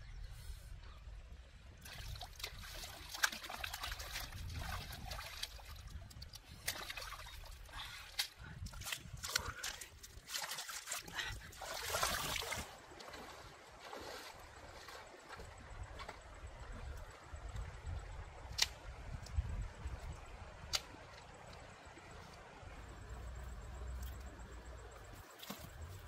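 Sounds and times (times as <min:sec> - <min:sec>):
river water splashing: 0:01.8 - 0:17.6, 0:20.6 - 0:26.0.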